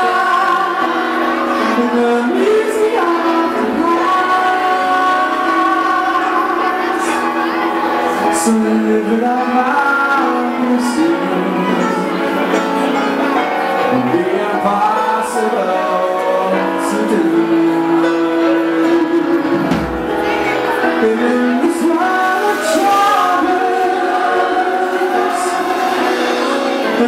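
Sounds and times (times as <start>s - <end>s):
music with singing: 0.0s - 27.0s.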